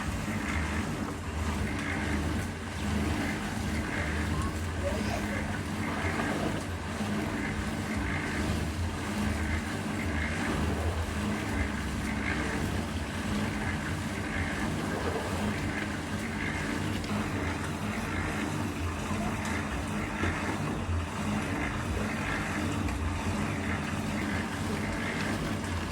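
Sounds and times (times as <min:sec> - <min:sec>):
heavy engine running steadily: 0:00.0 - 0:25.9.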